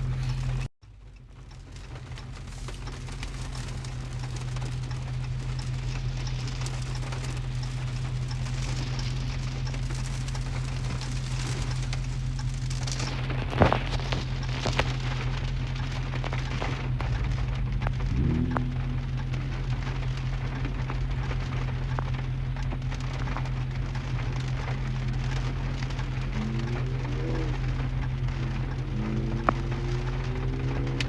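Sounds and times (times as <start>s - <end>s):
engine and road hum: 0.0s - 31.0s
rain pattering on car: 0.0s - 31.0s.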